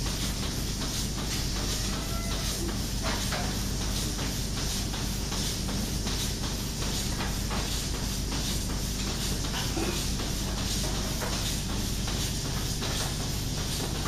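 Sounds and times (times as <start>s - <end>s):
milking machine vacuum hiss and hum: 0.0s - 14.0s.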